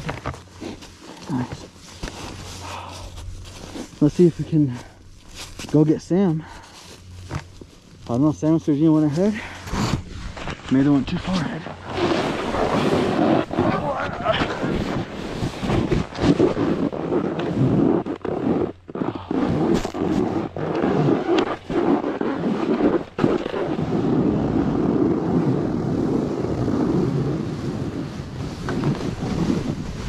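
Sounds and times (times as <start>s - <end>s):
snowboard scraping over snow: 0.0s - 30.0s.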